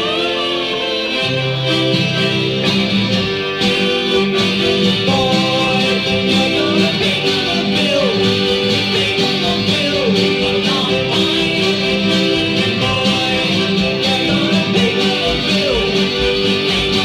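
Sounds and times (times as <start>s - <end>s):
instrument playing held chords: 0.0s - 17.0s.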